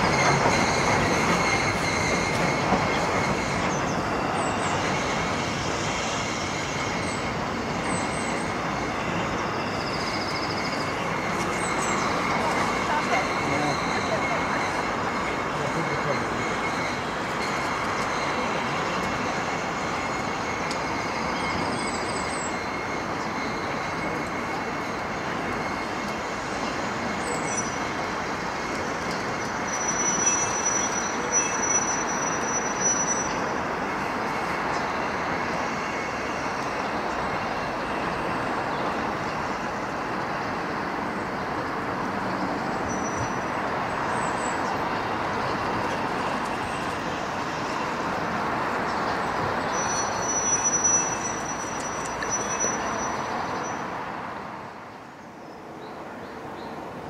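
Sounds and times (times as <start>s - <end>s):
thin high squeal: 0.0s - 40.5s, 42.6s - 44.8s, 48.9s - 53.9s
train rumbling: 0.0s - 57.0s.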